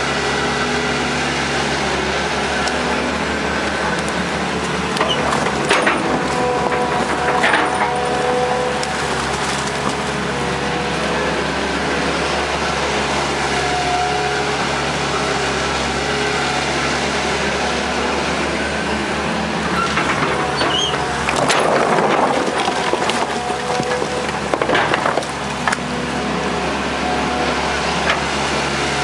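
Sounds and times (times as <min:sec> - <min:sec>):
excavator diesel engine under load: 0:00.0 - 0:29.0
hydraulic whine: 0:00.0 - 0:29.0.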